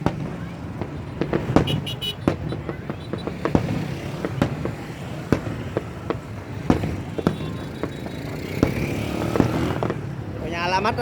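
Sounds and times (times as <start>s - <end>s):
fireworks bursting: 0.0s - 11.0s
low rumble of traffic: 0.0s - 11.0s.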